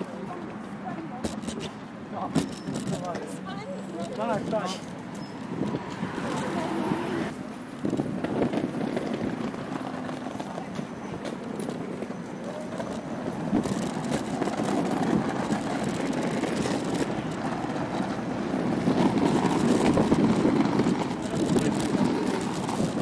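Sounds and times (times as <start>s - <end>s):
small wheels rolling on pavement: 0.0s - 23.0s.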